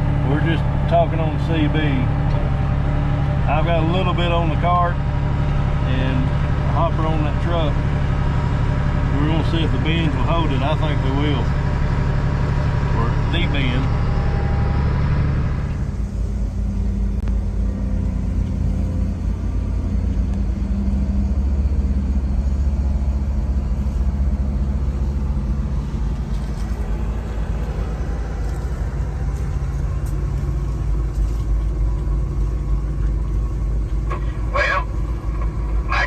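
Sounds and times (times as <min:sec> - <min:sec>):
farm vehicle engine rumbling: 0:00.0 - 0:36.0.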